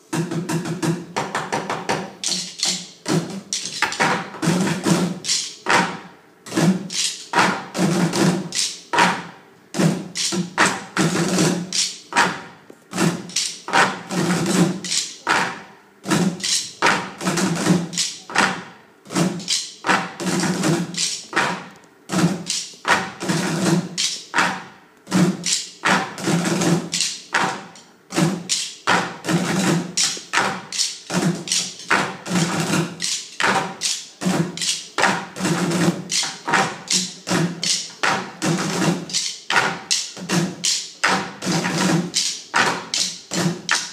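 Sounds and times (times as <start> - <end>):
drumming on plastic buckets: 0.0 - 43.9.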